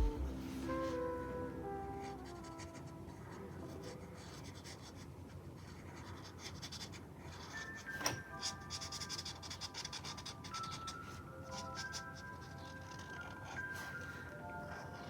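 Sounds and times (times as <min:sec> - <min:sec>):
drawing tool scratching on paper: 0:02.1 - 0:15.0.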